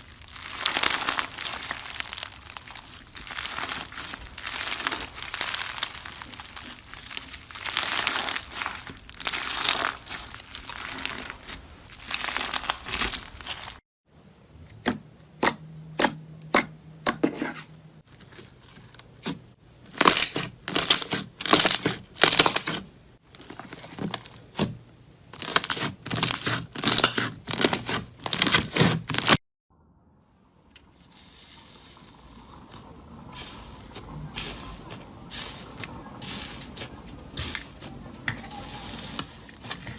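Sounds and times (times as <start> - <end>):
brittle material crackling and crunching: 0.0 - 13.8, 18.0 - 29.4, 31.0 - 39.9.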